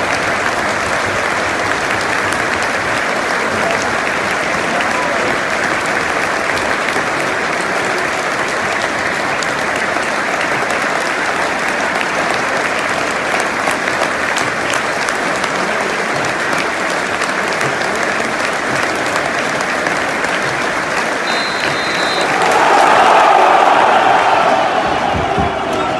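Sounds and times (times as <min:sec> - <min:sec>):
stadium crowd applauding: 0:00.0 - 0:25.9.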